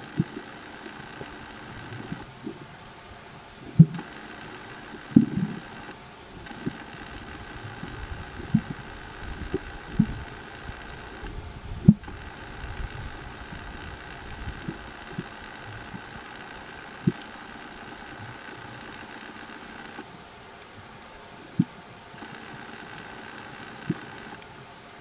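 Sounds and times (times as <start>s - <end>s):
underwater low hum: 0.0s - 25.0s.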